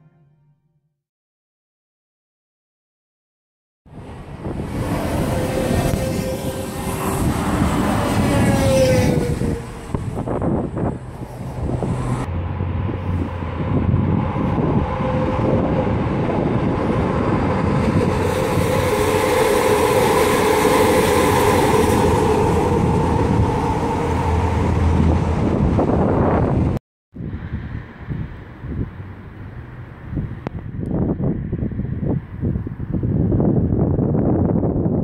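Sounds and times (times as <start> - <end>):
train whine and running noise: 3.9 - 32.3.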